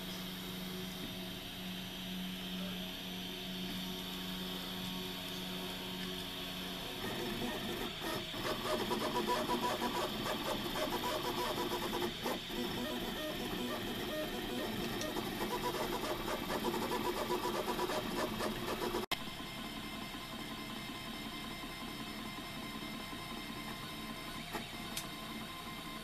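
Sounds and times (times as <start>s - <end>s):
printer stepper motors whining: 4.2s - 26.0s.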